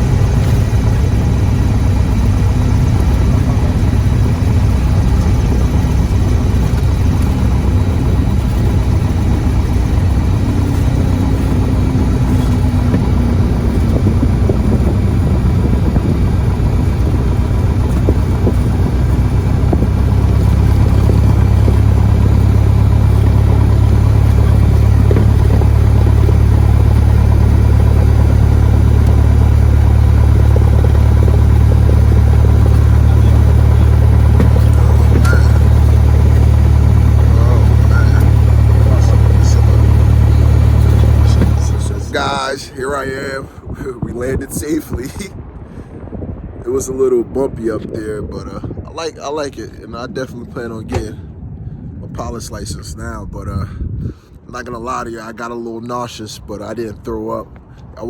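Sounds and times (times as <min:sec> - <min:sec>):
aircraft engine and propeller drone: 0:00.0 - 0:58.0.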